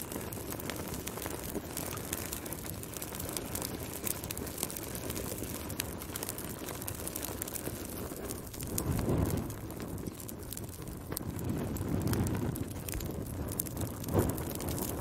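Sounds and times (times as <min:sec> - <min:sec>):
fire crackling and popping: 0:00.0 - 0:15.0
low rush of flames: 0:00.0 - 0:15.0.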